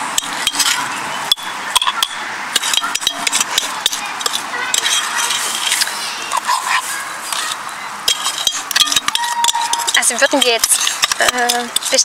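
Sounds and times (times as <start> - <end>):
spoon scraping glass jar: 0.2 - 12.0.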